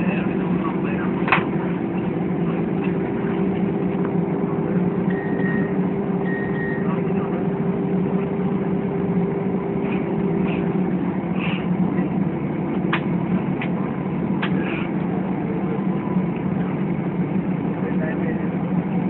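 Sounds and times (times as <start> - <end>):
jet engine and cabin noise: 0.0 - 19.0.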